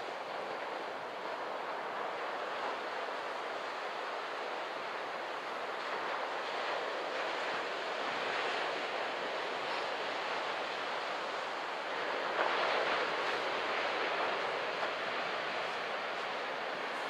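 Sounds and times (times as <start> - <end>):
waves breaking on sand: 0.0 - 17.0.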